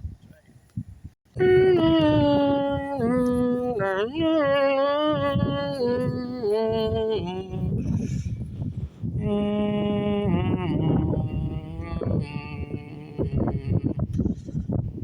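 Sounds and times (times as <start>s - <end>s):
person singing slow tune: 1.3s - 8.4s, 9.1s - 14.4s.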